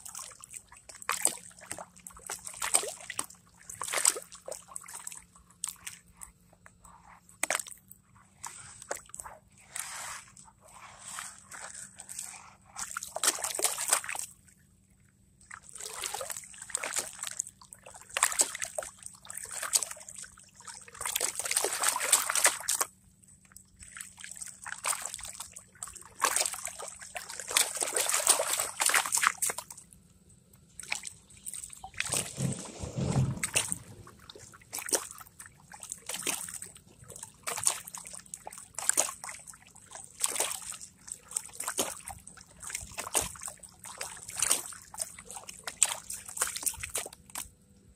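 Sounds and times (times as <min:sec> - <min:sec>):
water sloshing in a pan: 0:07.4 - 0:30.0, 0:30.6 - 0:47.5.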